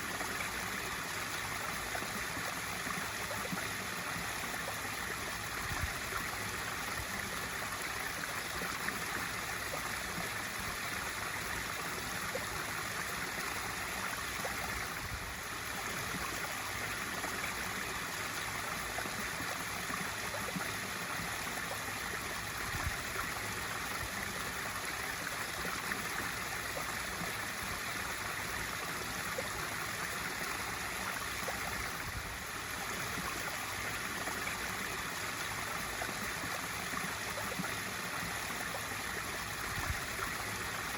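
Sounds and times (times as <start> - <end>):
waterfall pouring into pool: 0.0 - 40.9.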